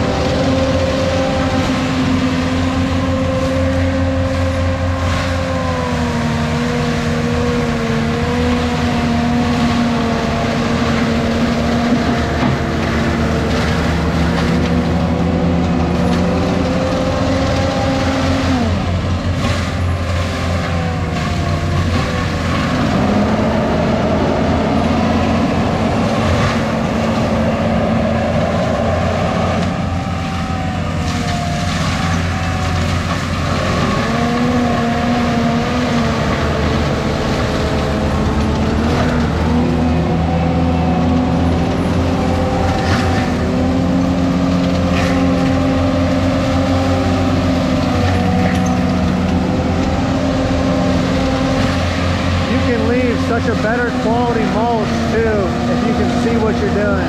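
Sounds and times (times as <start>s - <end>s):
mulching machine engine and drum whine: 0.0s - 57.0s.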